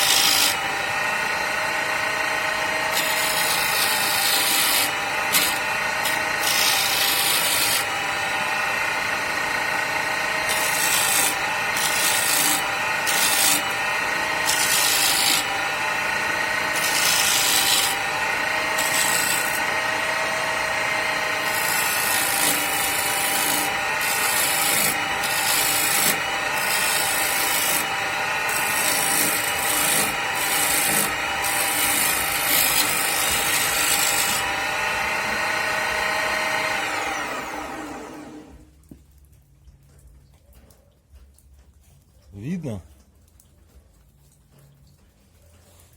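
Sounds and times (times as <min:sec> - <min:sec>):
chisel scraping wood: 0:00.0 - 0:38.4
lathe motor hum: 0:00.0 - 0:38.6.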